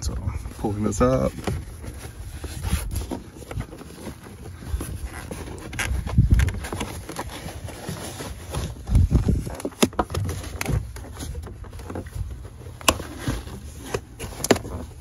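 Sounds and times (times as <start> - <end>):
carpet rustling: 0.0 - 15.0.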